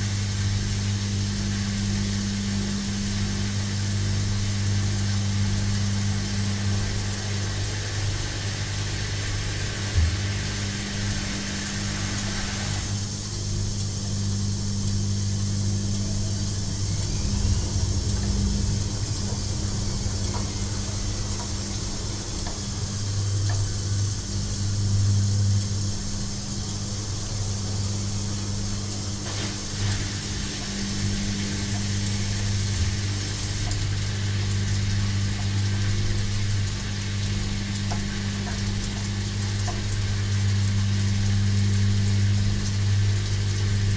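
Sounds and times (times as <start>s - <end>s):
washing machine running: 0.0s - 43.9s.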